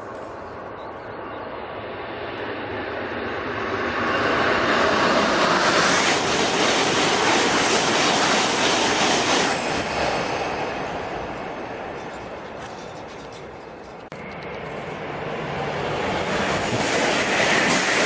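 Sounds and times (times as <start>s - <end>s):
bullet train passing at speed: 0.0s - 18.0s.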